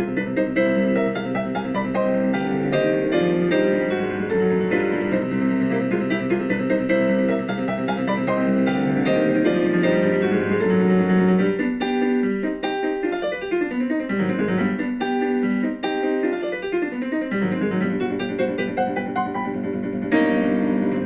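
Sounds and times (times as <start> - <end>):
flowing piano piece: 0.0 - 21.0.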